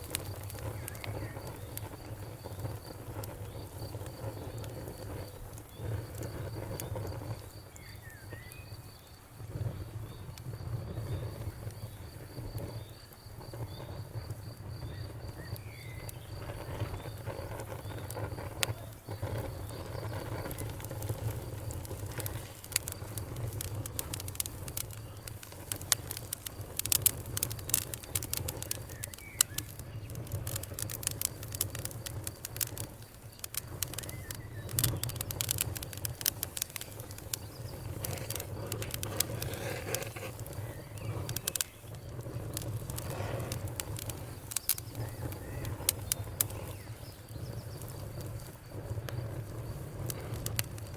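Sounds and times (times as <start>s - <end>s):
campfire crackling and popping: 0.0s - 50.9s
cricket chirping: 0.0s - 50.9s.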